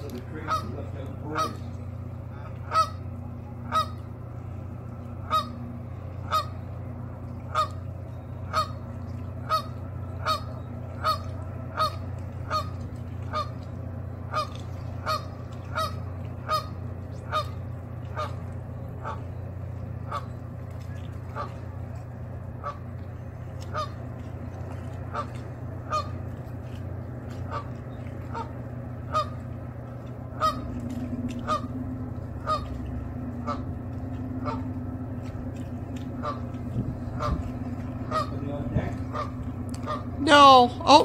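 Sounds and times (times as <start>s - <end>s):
geese honking: 0.0s - 41.0s
steady low hum: 0.0s - 41.0s.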